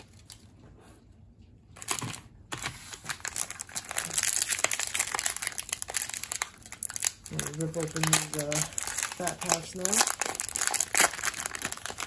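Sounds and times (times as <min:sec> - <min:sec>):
plastic wrapper crinkling and tearing: 0:00.0 - 0:00.5, 0:01.8 - 0:12.0.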